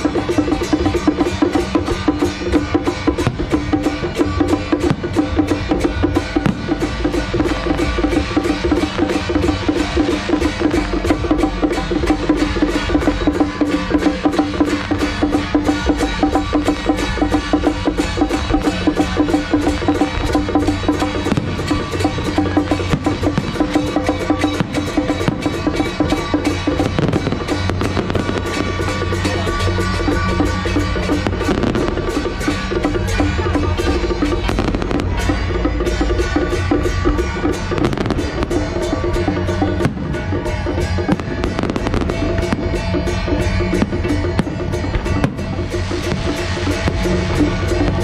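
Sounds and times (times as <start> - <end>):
fast percussion beat: 0.0 - 48.0.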